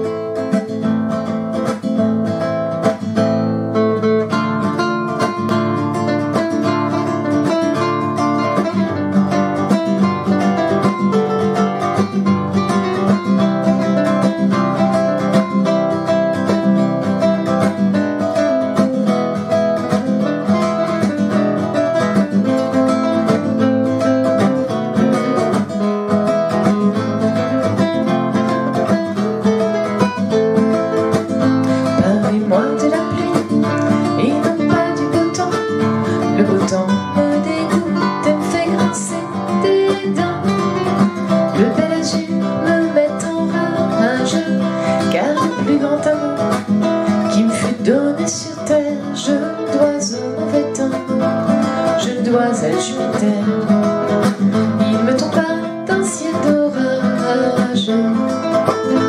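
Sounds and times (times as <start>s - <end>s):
acoustic guitars strumming rumba: 0.0s - 59.0s.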